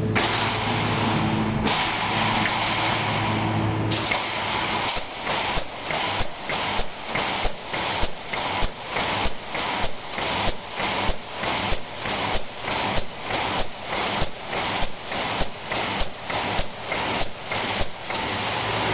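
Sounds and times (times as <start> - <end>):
welding machine hum: 0.0 - 18.9
sharp welding strokes: 0.4 - 18.9.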